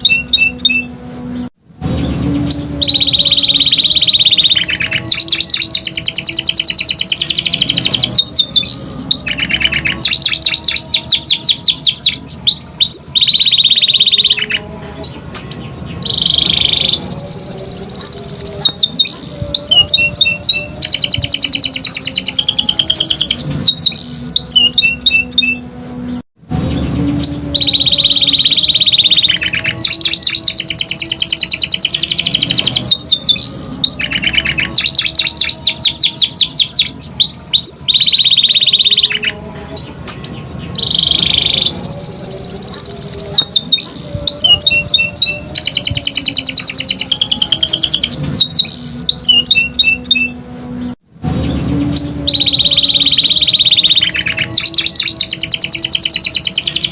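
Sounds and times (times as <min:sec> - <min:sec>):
canary singing trills and chirps: 0:00.0 - 0:25.6, 0:26.7 - 0:56.9.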